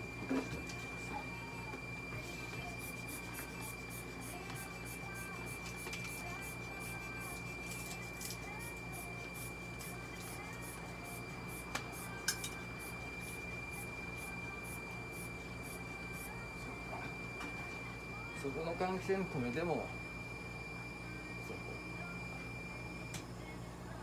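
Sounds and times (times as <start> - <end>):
high-pitched whine: 0.0 - 23.2
ventilation fan hum: 0.0 - 24.0.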